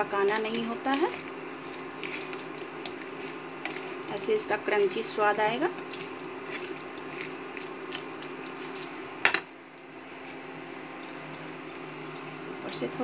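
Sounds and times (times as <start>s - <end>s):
spatula stirring in a pan: 0.0s - 9.1s, 11.1s - 13.0s.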